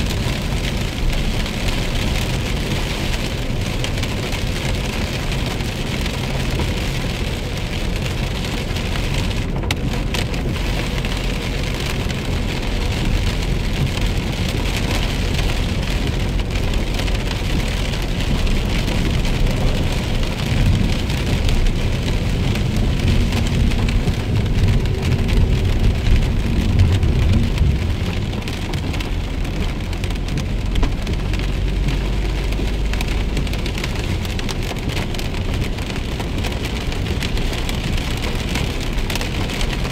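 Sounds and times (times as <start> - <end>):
car engine and tyres rumbling: 0.0 - 39.9
rain pattering on car: 0.0 - 39.9.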